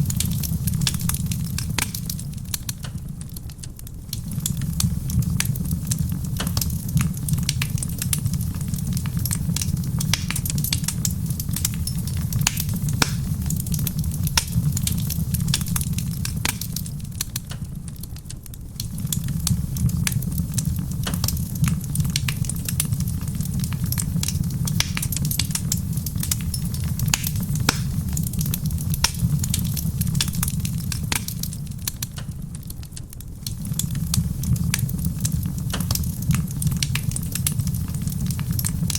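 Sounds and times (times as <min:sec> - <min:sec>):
soft rain pattering: 0:00.0 - 0:38.9
wood fire crackling and popping: 0:00.0 - 0:38.9.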